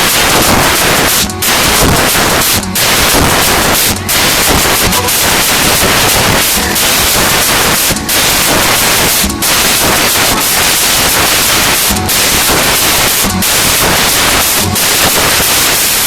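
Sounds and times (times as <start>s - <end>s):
loud static hiss: 0.0s - 16.0s.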